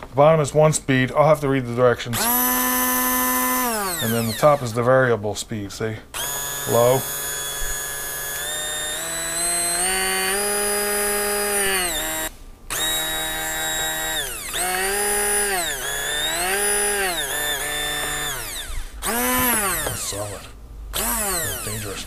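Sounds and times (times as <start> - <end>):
hand blender motor whining: 2.2 - 4.8, 6.2 - 22.0.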